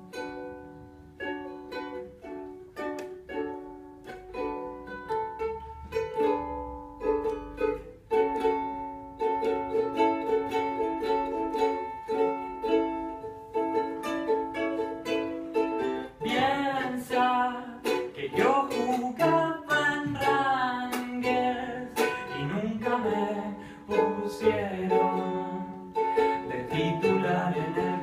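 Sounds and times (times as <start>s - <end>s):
ukulele plucked chords: 0.0s - 28.0s.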